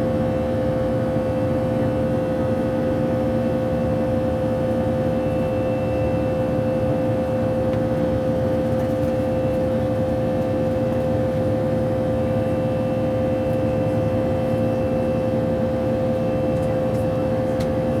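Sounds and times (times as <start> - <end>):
jet engine and airflow noise: 0.0 - 18.0.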